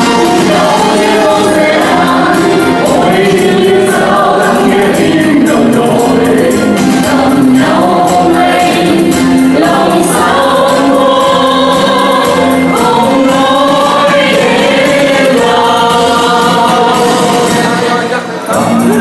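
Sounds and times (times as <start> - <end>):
vocal group singing: 0.0 - 19.0.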